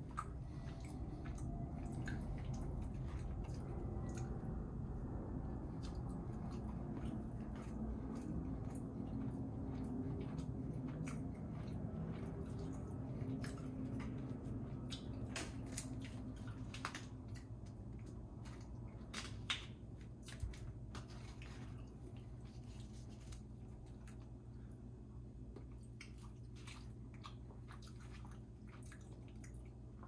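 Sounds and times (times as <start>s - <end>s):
person chewing food: 0.0s - 30.0s
steady low hum: 0.0s - 30.0s.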